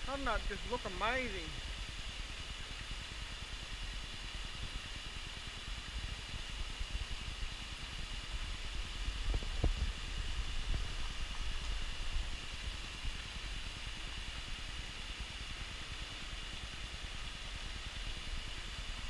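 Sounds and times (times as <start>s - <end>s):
outdoor hiss: 0.0s - 19.0s.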